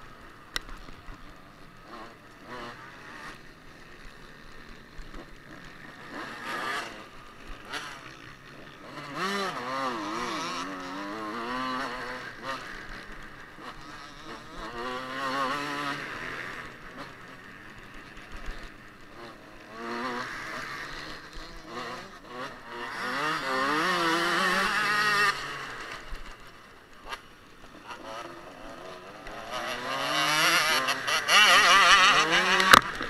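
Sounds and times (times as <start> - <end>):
motocross bike engine revving: 0.1 - 33.0.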